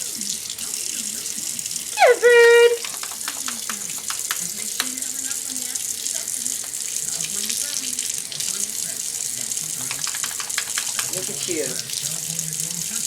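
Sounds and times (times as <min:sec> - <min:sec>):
parrot splashing in water: 0:00.0 - 0:13.0
tap water running: 0:00.0 - 0:13.0.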